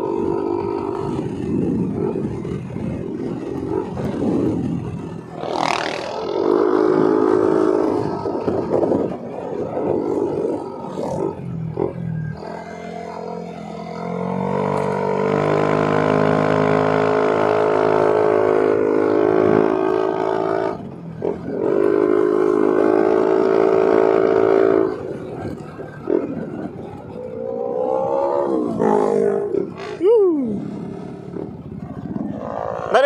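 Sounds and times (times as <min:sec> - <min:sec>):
scooter engine running: 0:00.0 - 0:33.0.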